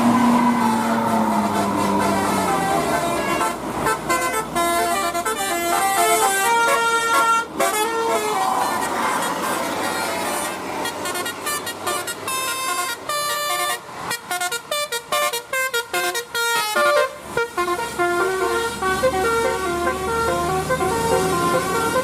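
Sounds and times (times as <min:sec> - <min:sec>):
bus engine rumble: 0:00.0 - 0:22.0
tuned air horns playing a tune: 0:00.0 - 0:22.0.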